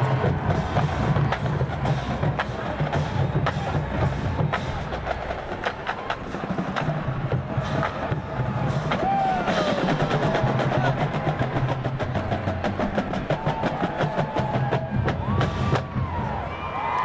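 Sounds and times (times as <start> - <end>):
snare and tenor drums: 0.0 - 16.4
bass drums: 0.0 - 16.7.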